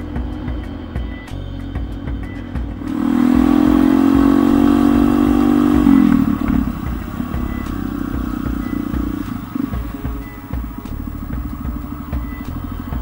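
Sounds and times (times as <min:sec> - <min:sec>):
motorcycle engine cruising: 0:00.0 - 0:13.0
road and wind rumble: 0:00.0 - 0:13.0.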